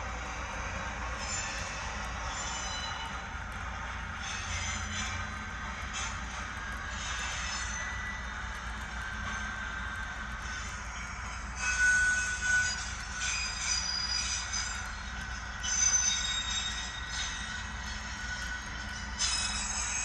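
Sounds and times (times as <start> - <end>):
train wheels squealing on rail: 0.0 - 20.0.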